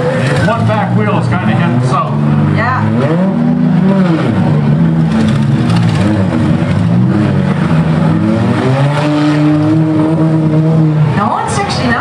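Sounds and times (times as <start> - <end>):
car engines running and revving: 0.0 - 12.0.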